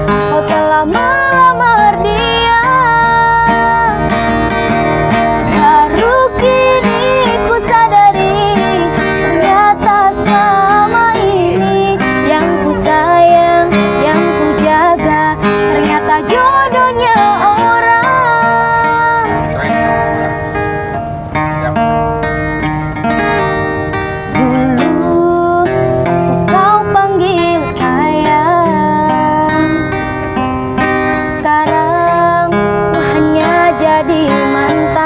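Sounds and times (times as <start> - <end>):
woman singing pop song: 0.0 - 4.6, 5.4 - 19.6, 24.3 - 30.2, 30.8 - 35.0
strummed acoustic guitar: 0.0 - 35.0.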